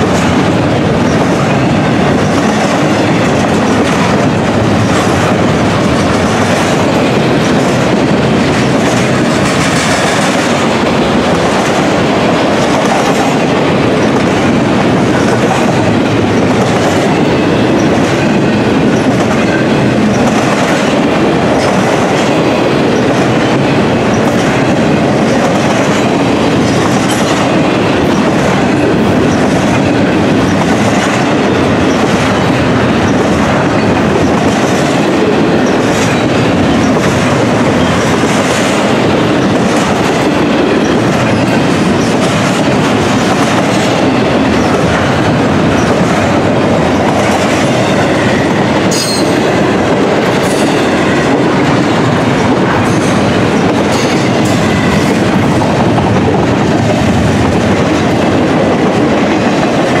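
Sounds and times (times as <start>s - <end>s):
train wheels rumbling on rail: 0.0s - 60.0s.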